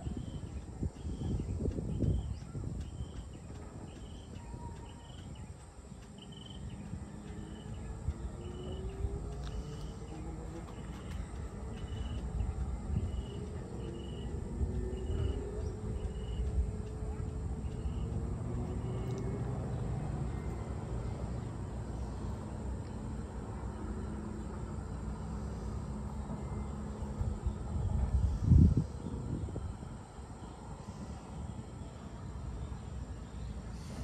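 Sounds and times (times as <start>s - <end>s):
faint engine rising in pitch: 0.0s - 34.0s.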